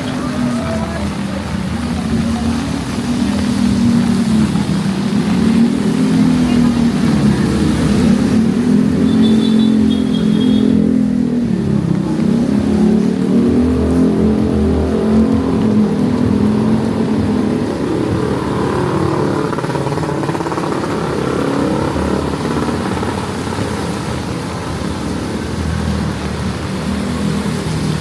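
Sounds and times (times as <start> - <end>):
vehicle engine revving: 0.0 - 28.0.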